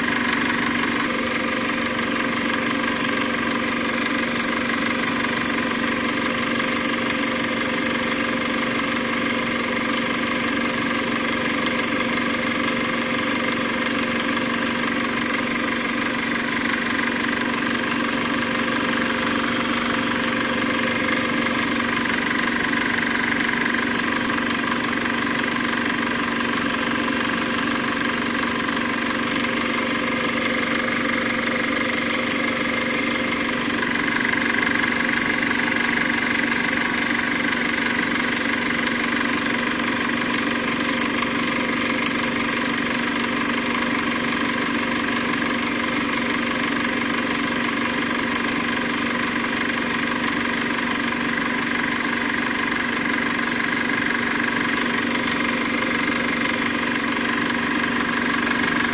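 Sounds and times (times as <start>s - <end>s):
steady mechanical drone: 0.0s - 58.9s.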